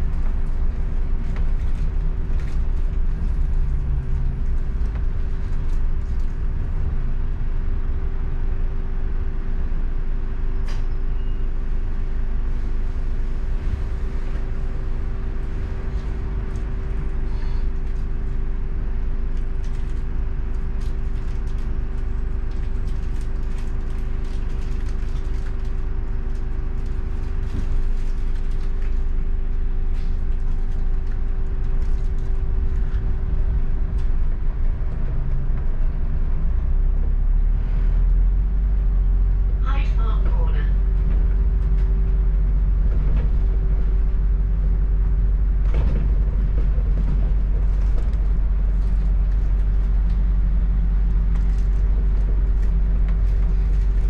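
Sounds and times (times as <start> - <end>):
bus engine drone: 0.0 - 54.0
rattles and clicks from bus body: 0.0 - 54.0.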